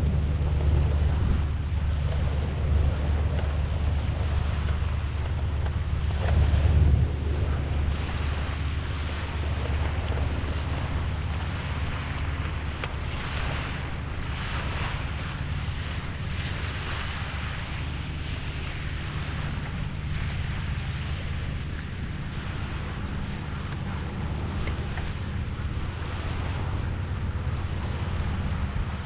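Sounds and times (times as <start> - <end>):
low engine drone: 0.0 - 29.0
rushing water: 0.0 - 29.0
wind buffeting microphone: 0.0 - 29.0.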